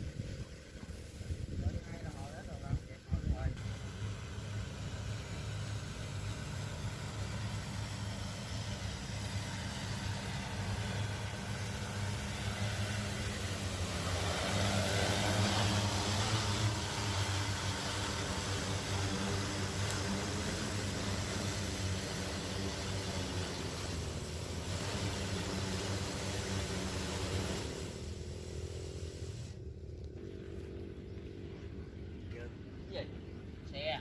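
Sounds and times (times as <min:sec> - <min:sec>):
drone propellers droning: 0:00.0 - 0:34.0.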